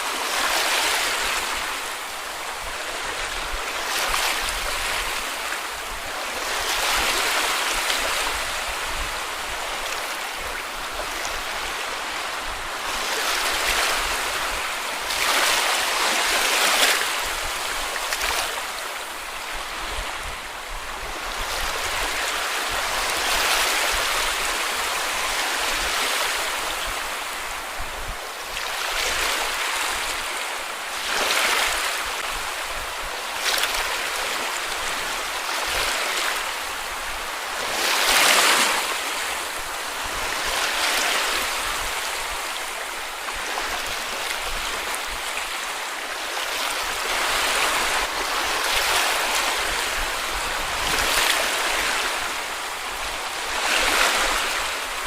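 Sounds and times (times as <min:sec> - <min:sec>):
waves breaking on sandy beach: 0:00.0 - 0:55.0.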